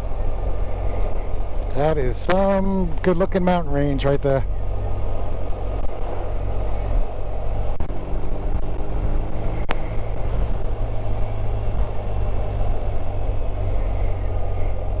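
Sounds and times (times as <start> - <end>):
motorcycle engine rumble: 0.0 - 15.0
riding wind rushing: 0.0 - 15.0.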